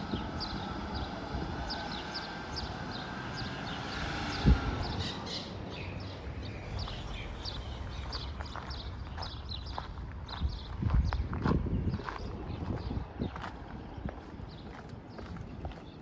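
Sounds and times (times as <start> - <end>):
outdoor street noise: 0.0 - 16.0
small birds chirping: 0.0 - 16.0.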